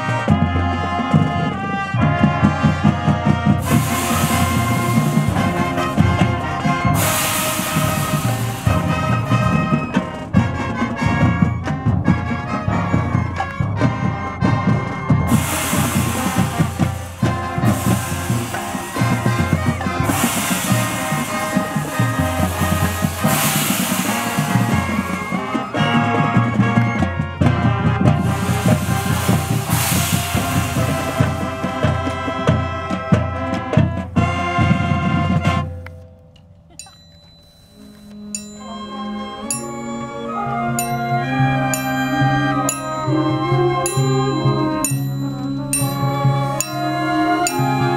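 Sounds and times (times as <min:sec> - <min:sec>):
brass and saxophones: 0:00.0 - 0:35.8, 0:38.1 - 0:47.9
marching band playing: 0:00.0 - 0:35.8, 0:37.4 - 0:47.9
bass drum and percussion: 0:00.0 - 0:47.9.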